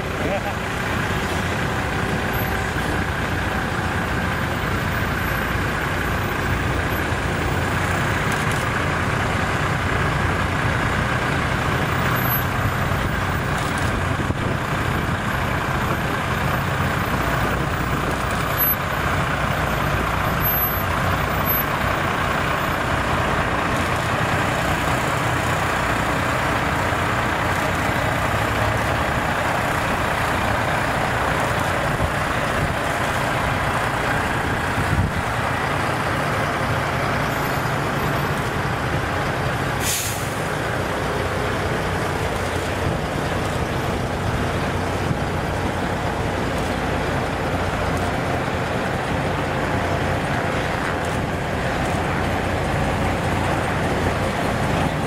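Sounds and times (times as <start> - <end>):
diesel truck engines rumbling: 0.0 - 55.0.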